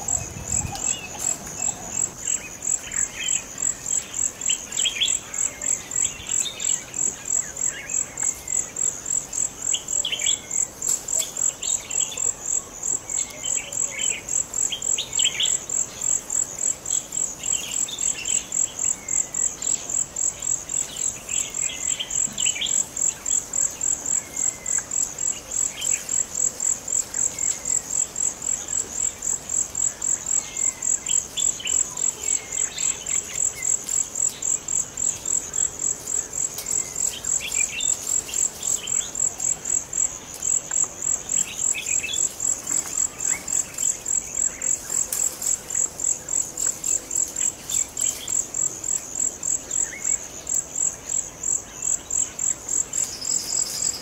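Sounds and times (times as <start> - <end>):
pulsing insect chorus: 0.0 - 54.0.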